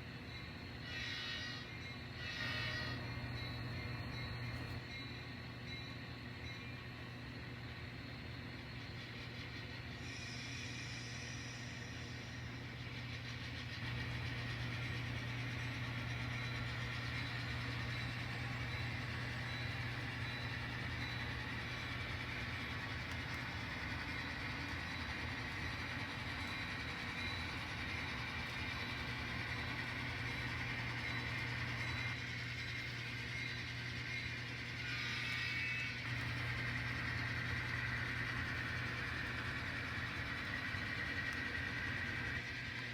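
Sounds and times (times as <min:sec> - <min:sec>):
model train locomotive hum: 0:00.0 - 0:42.9.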